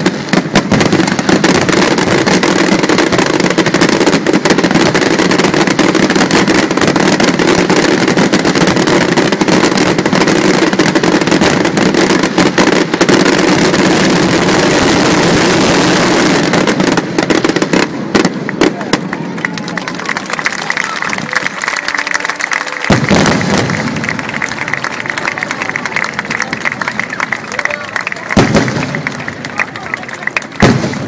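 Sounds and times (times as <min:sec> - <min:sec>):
fireworks bursting: 0:00.0 - 0:31.0
sharp firework cracks: 0:00.0 - 0:31.0.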